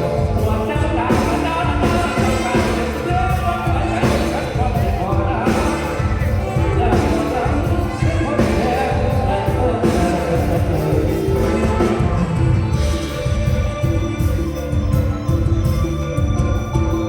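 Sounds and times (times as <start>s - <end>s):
live band music with heavy beat: 0.0s - 17.0s.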